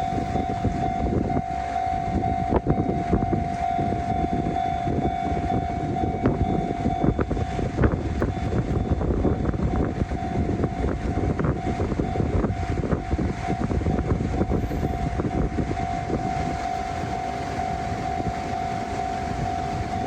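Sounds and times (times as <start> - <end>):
train rumble and wheel clatter: 0.0 - 20.0.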